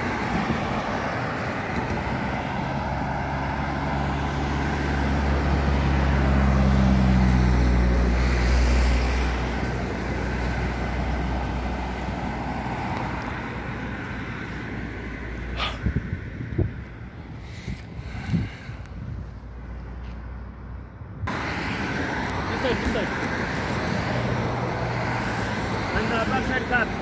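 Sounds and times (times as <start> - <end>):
vehicle road noise: 0.0 - 27.0.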